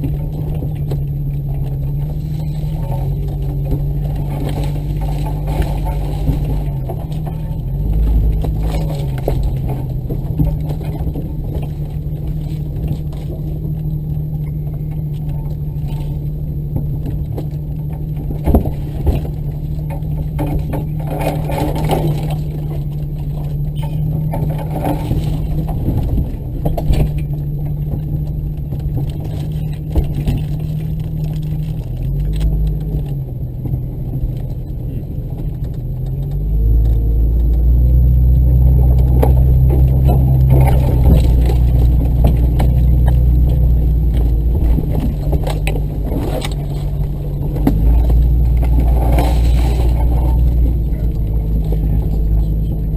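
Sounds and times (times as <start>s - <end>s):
knocks and rattles: 0.0s - 52.9s
vehicle engine running: 0.0s - 52.9s.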